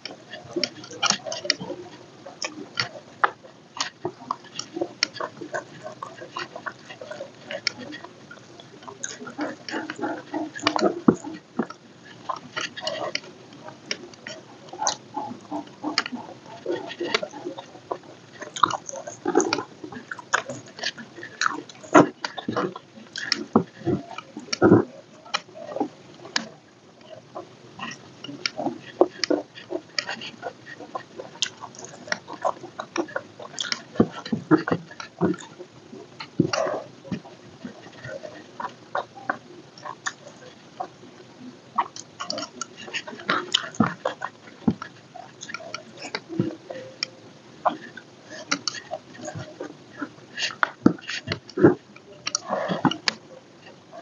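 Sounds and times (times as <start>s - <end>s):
small mouth clicks: 0.0s - 27.2s, 27.8s - 35.6s, 36.2s - 53.8s
person chewing food: 2.4s - 27.2s, 27.8s - 35.6s, 36.2s - 41.0s, 41.8s - 53.2s.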